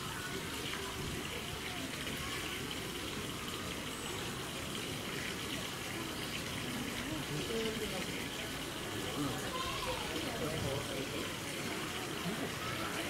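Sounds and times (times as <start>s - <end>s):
faint distant voices: 0.0s - 13.0s
running water rushing: 0.0s - 13.0s.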